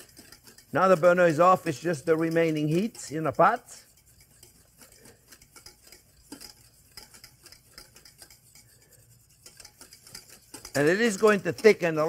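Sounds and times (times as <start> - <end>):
utensil stirring and scraping pot: 0.0 - 12.0.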